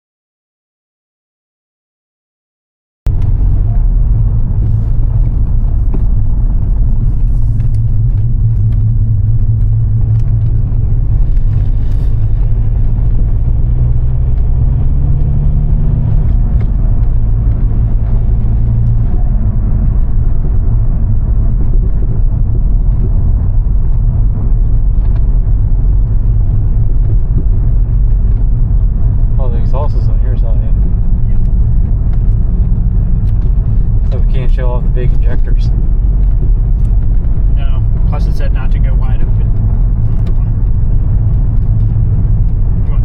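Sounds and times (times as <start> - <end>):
car engine and road rumble: 3.1 - 43.0.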